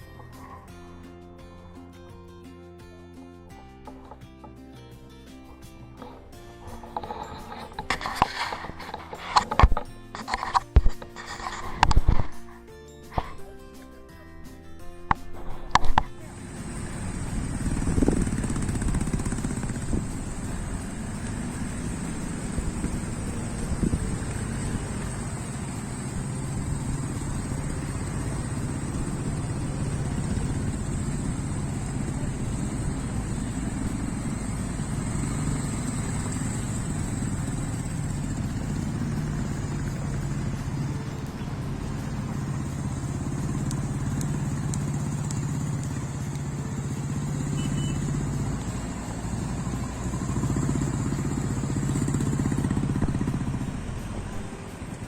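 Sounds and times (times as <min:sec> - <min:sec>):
road and wind noise: 0:00.0 - 0:02.2, 0:03.6 - 0:13.6, 0:14.6 - 0:55.0
vehicle engine humming: 0:03.6 - 0:12.2, 0:15.1 - 0:55.0.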